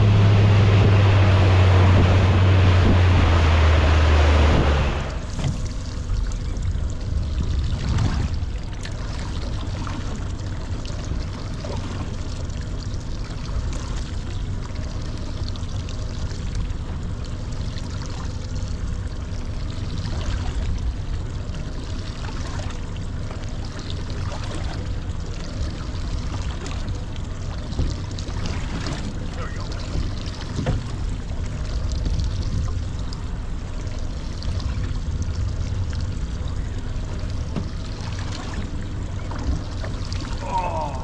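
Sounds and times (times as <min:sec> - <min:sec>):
steady low rumble: 0:00.0 - 0:41.0
water sloshing against boat hull: 0:00.0 - 0:41.0.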